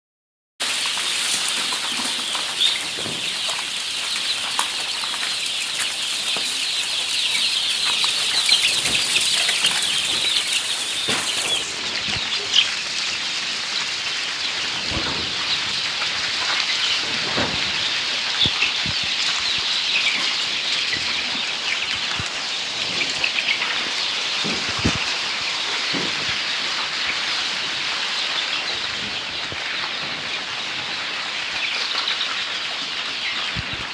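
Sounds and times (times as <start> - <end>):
chicks peeping: 0.6 - 33.9.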